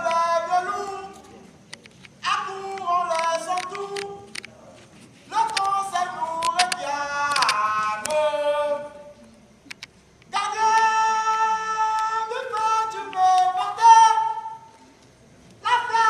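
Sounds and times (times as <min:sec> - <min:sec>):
voices singing campfire song: 0:00.0 - 0:16.0.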